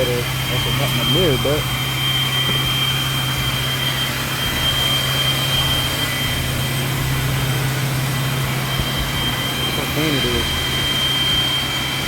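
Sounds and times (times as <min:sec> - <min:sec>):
low mechanical hum: 0:00.0 - 0:12.0
thin high whine: 0:00.0 - 0:12.0.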